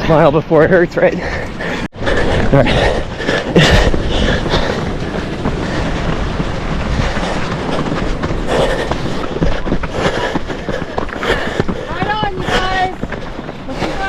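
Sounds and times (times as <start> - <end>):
running footfalls: 0.0 - 14.0
steady low rumble: 0.0 - 14.0
wind buffeting microphone: 0.0 - 14.0.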